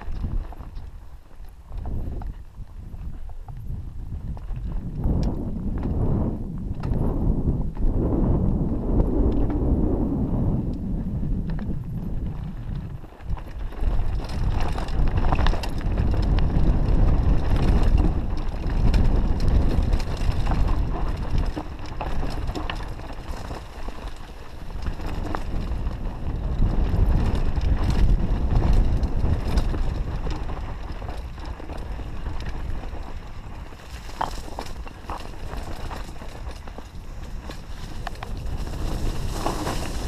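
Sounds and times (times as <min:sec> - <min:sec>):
clicks and knocks from bike: 0:00.0 - 0:06.0, 0:11.4 - 0:40.0
bike tyres crunching over stones: 0:00.0 - 0:40.0
wind buffeting microphone: 0:00.0 - 0:40.0.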